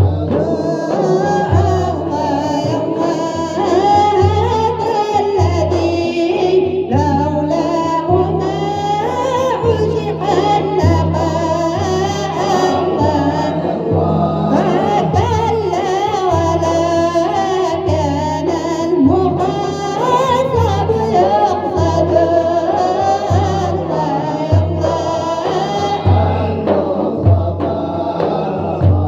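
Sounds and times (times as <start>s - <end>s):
voices singing a melismatic melody: 0.0s - 29.0s.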